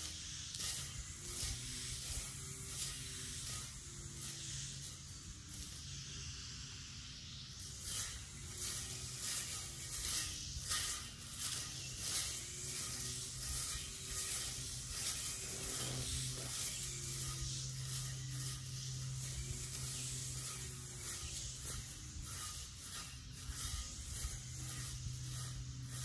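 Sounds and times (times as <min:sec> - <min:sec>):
blade swishing through grass: 0:00.0 - 0:26.0
weed eater motor humming: 0:00.0 - 0:26.0.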